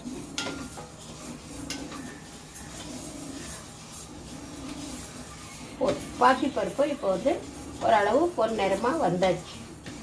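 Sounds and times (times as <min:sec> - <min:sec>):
lentils scraped in metal pan: 0:00.0 - 0:10.0.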